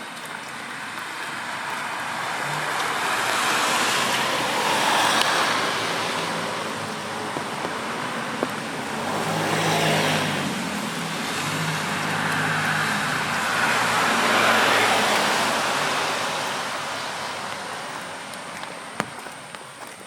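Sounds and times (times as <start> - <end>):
engine low hum: 0.0 - 20.0
steady rain: 0.0 - 20.0
tyres hissing on wet road: 0.0 - 20.0.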